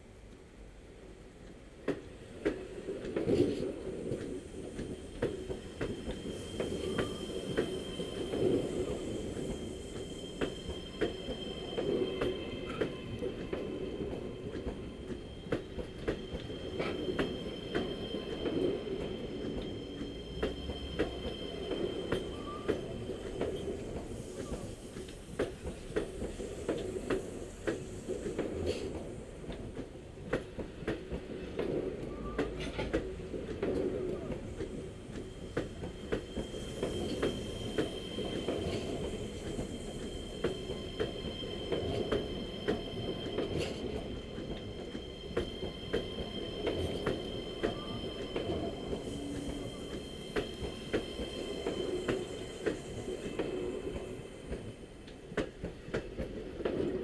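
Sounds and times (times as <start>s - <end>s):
train rumble: 0.0s - 57.0s
train wheels clicking over rail joints: 1.4s - 57.0s.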